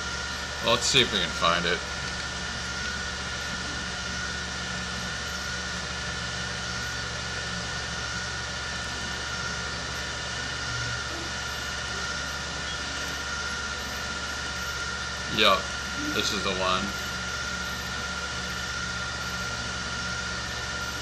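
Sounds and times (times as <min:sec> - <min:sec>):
background hum and hiss: 0:00.0 - 0:21.0.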